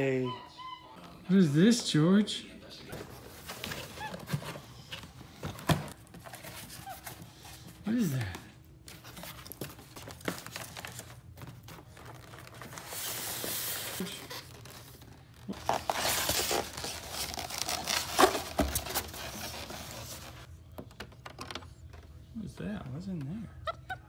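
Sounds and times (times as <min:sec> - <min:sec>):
cardboard and foam rustling: 0:02.9 - 0:22.3.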